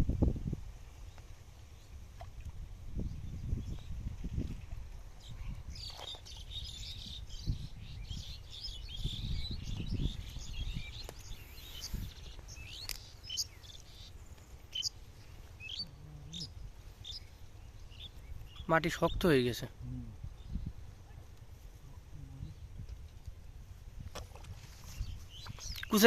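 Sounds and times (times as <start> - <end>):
small birds chirping: 3.0 - 23.1, 24.6 - 26.0.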